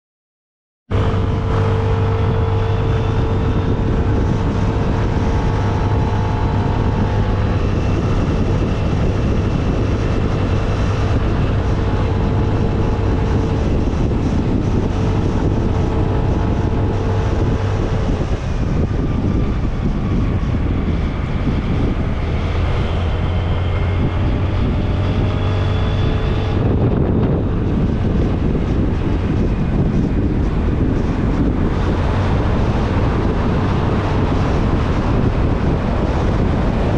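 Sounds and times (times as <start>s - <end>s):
heavy wind noise on microphone: 0.9s - 36.9s
motorcycle engine cruising: 0.9s - 36.9s.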